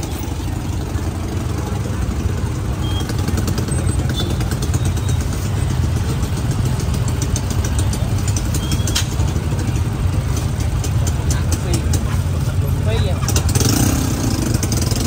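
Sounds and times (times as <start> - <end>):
street traffic engines: 0.0 - 15.0.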